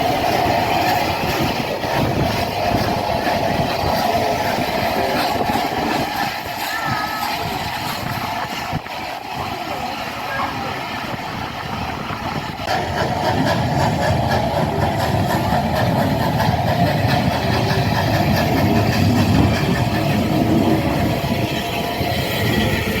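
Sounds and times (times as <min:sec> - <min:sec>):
steam train rumbling: 0:00.0 - 0:23.0.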